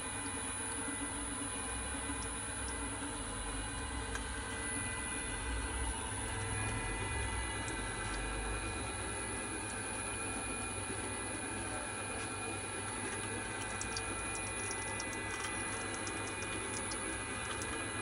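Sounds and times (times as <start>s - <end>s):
oil press motor humming: 0.0s - 18.0s.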